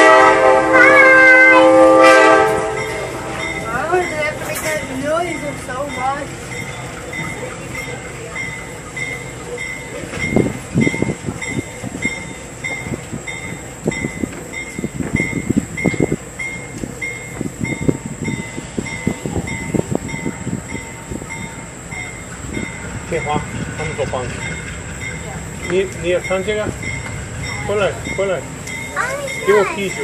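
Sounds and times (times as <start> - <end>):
locomotive bell ringing: 0.0 - 30.0
train rumbling and knocking: 0.0 - 30.0.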